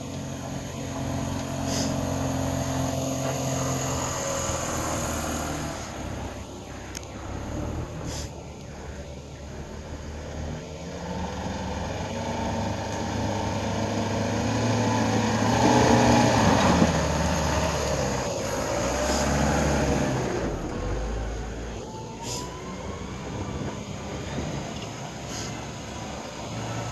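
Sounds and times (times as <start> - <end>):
car engine labouring uphill: 0.0 - 26.9.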